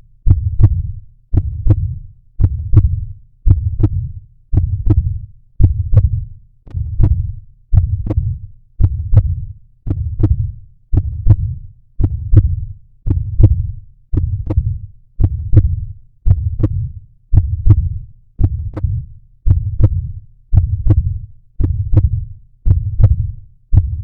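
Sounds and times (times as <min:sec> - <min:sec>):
heartbeat thumps: 0:00.2 - 0:24.0.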